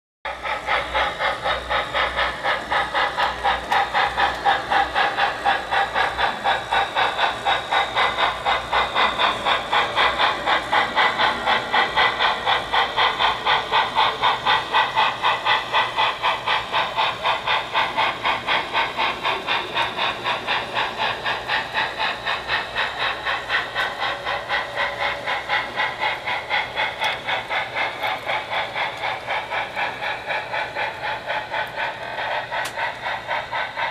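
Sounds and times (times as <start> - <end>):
model steam locomotive chuffing: 0.3 - 33.9.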